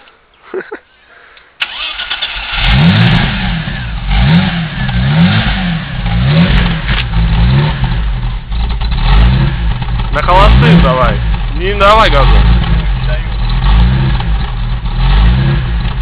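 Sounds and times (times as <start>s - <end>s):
car engine starting and revving: 1.6s - 16.0s.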